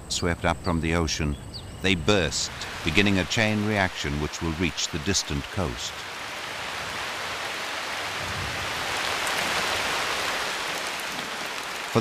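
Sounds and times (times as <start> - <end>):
heavy rain pouring: 1.9 - 12.0.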